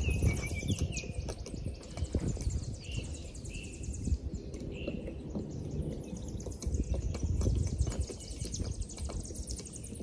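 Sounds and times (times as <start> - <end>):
bird chirp: 0.0 - 10.0
low wind rumble on microphone: 0.0 - 10.0.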